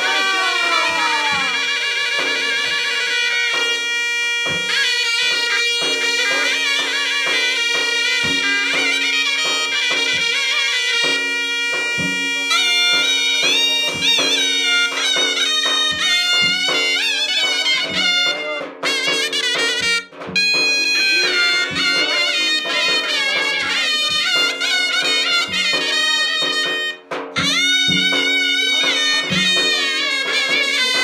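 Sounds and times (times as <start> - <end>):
shawm playing folk melody: 0.0 - 31.0.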